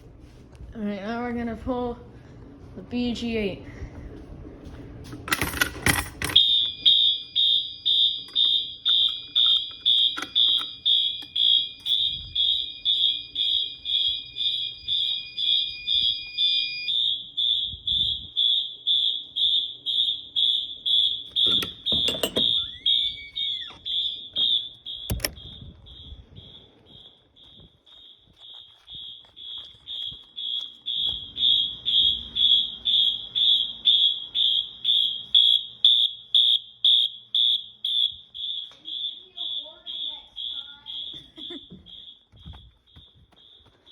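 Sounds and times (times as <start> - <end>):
pulsing fire alarm horns: 6.2 - 43.9
steady high alarm tone: 6.2 - 43.9.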